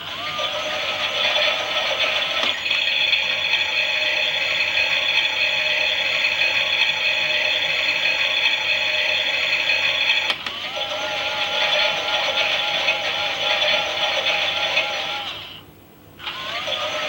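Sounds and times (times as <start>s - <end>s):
toy washing machine motor whirring: 0.0s - 15.6s, 16.2s - 17.0s.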